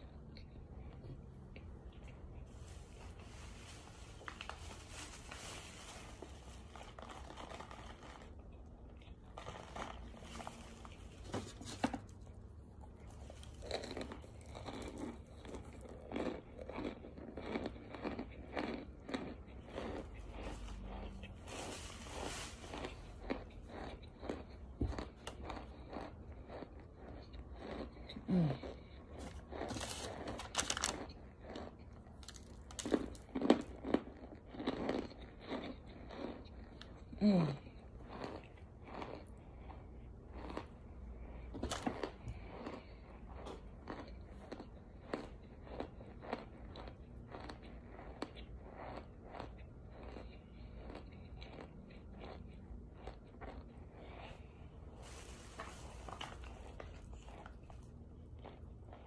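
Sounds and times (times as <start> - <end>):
chewing crunches: 6.5 - 54.8, 55.5 - 59.0.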